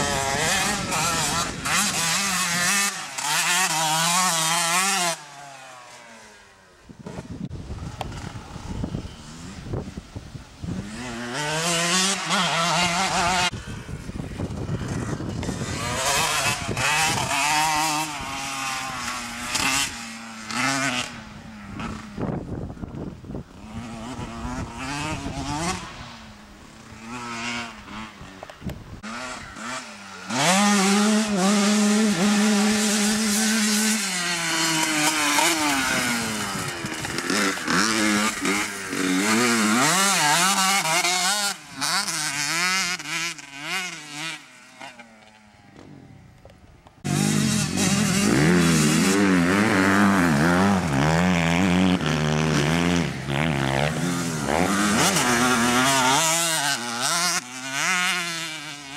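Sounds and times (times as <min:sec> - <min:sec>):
dirt bike engines revving: 0:00.0 - 0:58.9.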